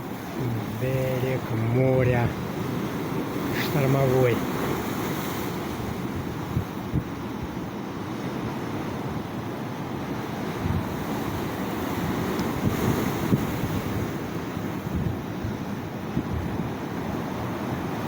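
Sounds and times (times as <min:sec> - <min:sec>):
sea surf rushing onto shore: 0:00.0 - 0:18.0
wind buffeting microphone: 0:00.0 - 0:18.0.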